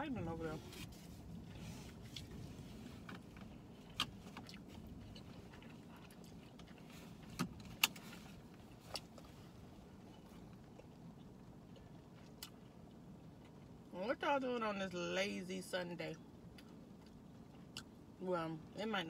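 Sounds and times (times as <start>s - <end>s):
low rumble inside car: 0.0s - 19.0s.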